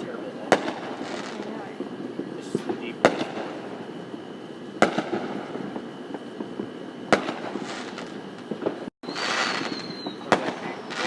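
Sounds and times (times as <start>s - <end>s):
fireworks bangs: 0.0s - 11.0s
fireworks hissing: 0.0s - 11.0s.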